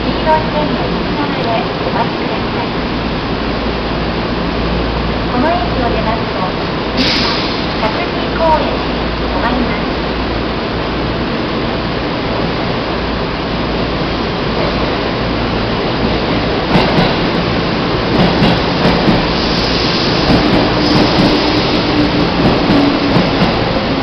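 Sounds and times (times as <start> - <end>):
stopped electric train noise: 0.0 - 24.0.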